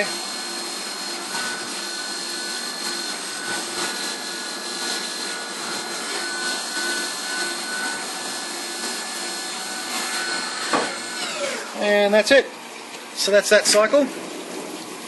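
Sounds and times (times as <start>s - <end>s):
milling spindle whine: 0.0s - 12.4s.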